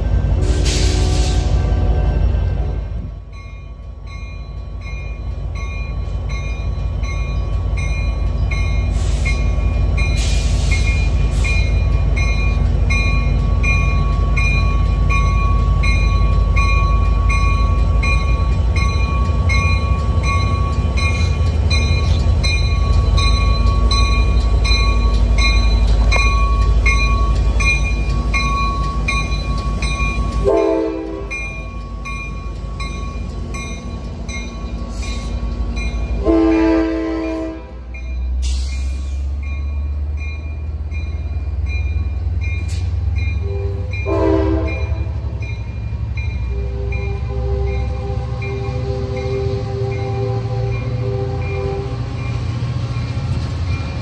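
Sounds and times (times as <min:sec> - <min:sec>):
diesel locomotive rumbling: 0:00.0 - 0:54.0
locomotive bell ringing: 0:03.2 - 0:54.0.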